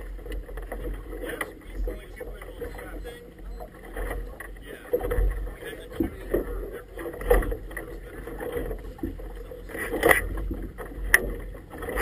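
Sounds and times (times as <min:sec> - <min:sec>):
water slapping inflatable boat: 0:00.0 - 0:12.0.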